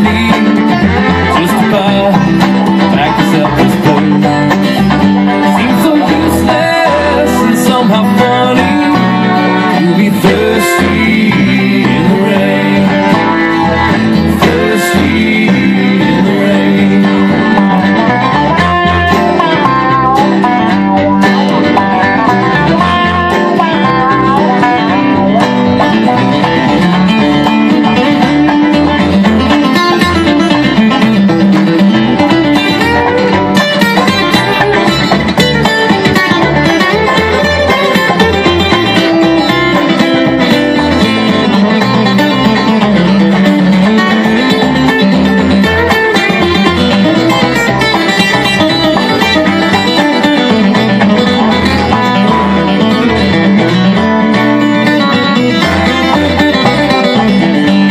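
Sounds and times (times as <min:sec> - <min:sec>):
bluegrass band playing: 0:00.0 - 0:57.9.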